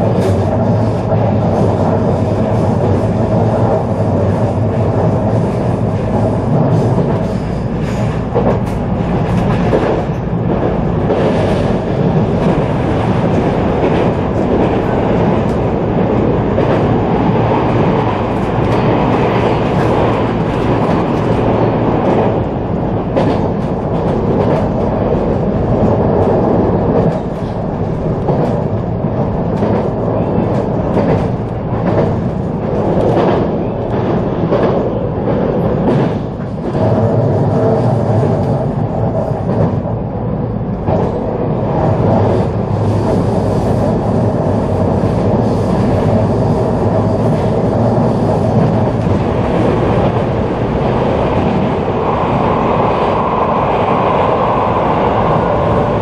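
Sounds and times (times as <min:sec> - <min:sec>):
track clicks and clacks: 0:00.0 - 0:56.0
train wheels rumbling on rails: 0:00.0 - 0:56.0.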